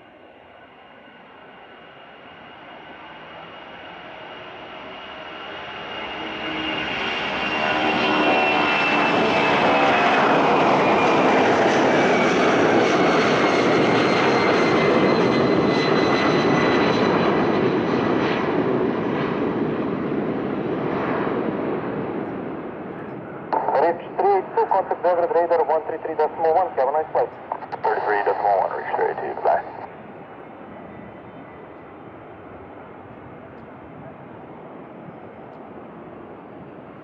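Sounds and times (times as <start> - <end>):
jet engines roaring: 4.5 - 37.0.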